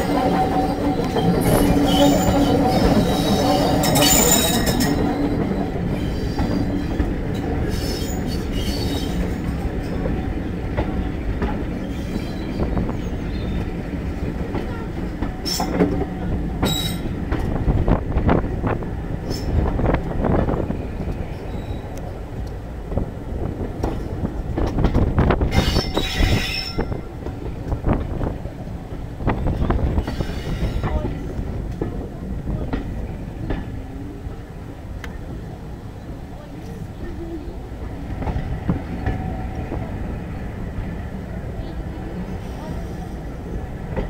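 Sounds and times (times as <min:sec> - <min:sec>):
train wheels rumbling and rattling: 0:00.0 - 0:44.0.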